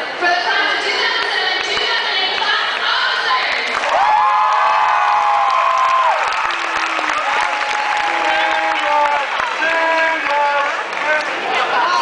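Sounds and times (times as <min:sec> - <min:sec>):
crowd shouting and cheering: 0:00.0 - 0:12.0.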